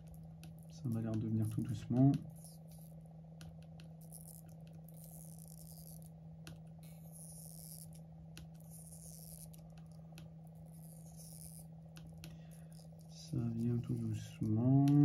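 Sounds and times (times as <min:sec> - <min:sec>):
adhesive strip crackling: 0:00.0 - 0:15.0
steady low hum: 0:00.0 - 0:15.0.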